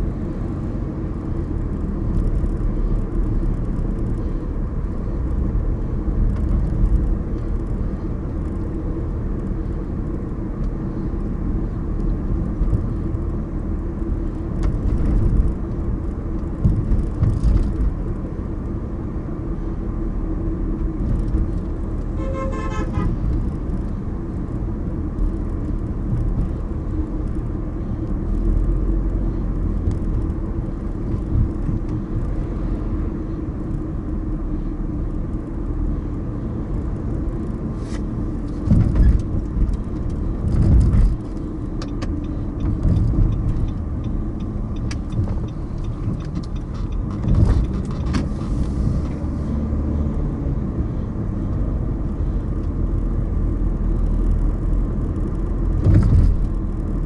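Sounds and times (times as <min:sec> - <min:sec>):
car engine: 0:00.0 - 0:57.0
road and tyre rumble: 0:00.0 - 0:57.0.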